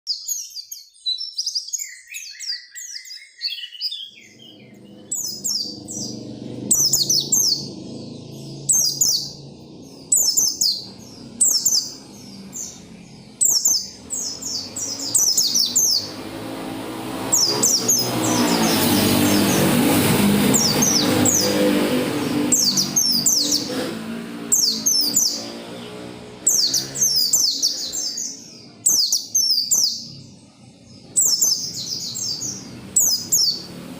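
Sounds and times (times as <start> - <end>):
bird singing high chattering phrases: 0.1 - 33.9.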